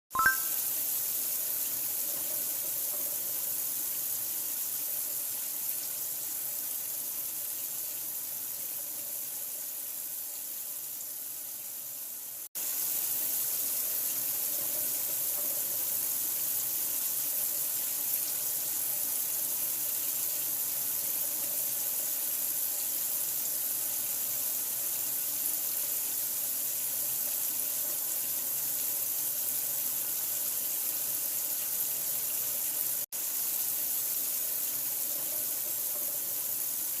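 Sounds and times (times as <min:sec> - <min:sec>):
running water hiss: 0:00.2 - 0:37.0.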